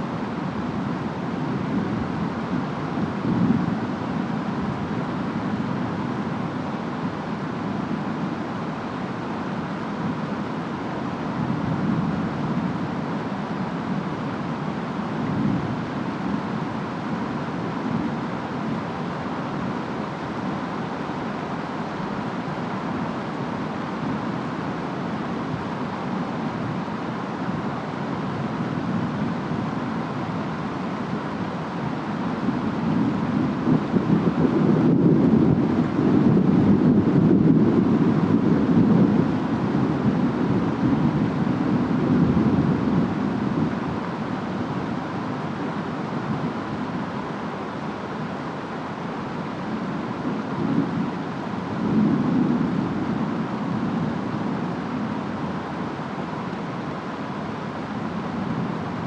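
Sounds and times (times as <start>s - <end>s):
rain: 0.0s - 59.0s
wind: 0.0s - 59.0s.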